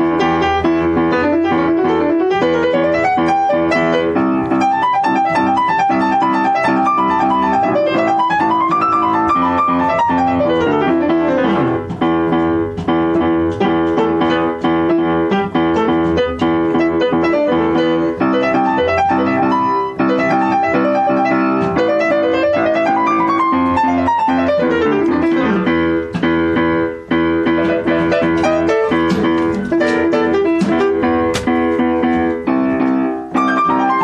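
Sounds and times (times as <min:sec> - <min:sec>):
jazz piano solo: 0:00.0 - 0:34.0.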